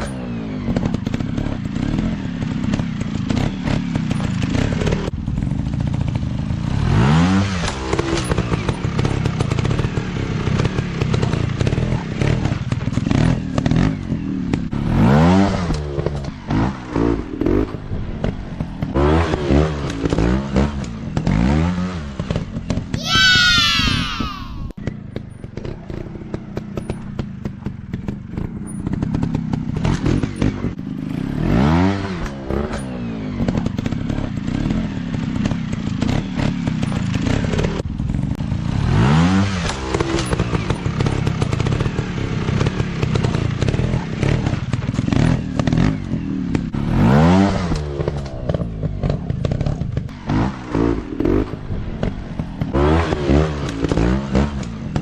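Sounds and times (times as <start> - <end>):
motorcycle engine revving: 0.0 - 23.0, 24.8 - 55.0.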